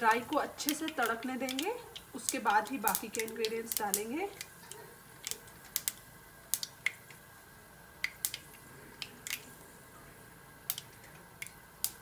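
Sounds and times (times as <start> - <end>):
mustard seeds popping in oil: 0.0 - 7.3, 7.9 - 9.6, 10.6 - 12.0.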